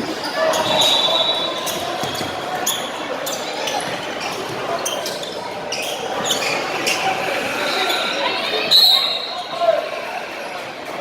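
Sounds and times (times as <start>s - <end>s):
voices in echoing hall: 0.0s - 11.0s.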